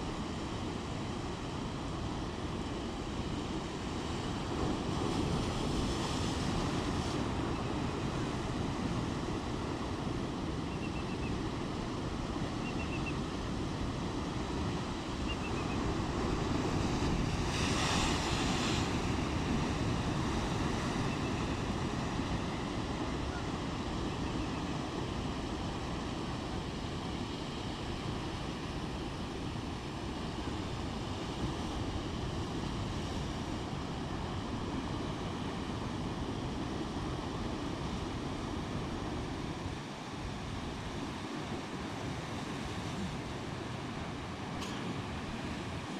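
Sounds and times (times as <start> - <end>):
wind and waves rushing: 0.0 - 45.9.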